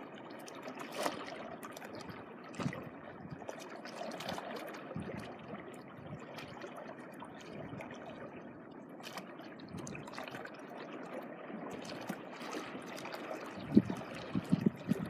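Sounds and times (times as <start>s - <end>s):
sea water washing on shore: 0.0s - 15.0s.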